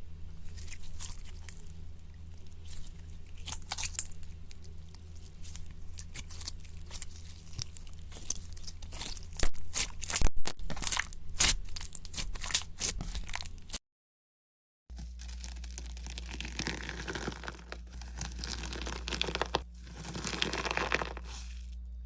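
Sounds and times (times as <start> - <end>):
slime crunching and crackling: 0.4 - 13.8, 14.9 - 22.0.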